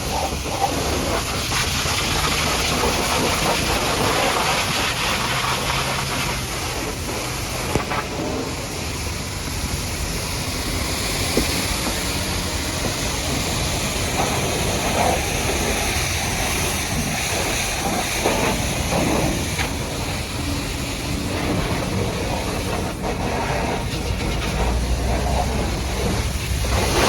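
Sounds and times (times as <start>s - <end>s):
low machine drone: 0.0s - 27.0s
pressure washer water spraying: 0.0s - 27.0s.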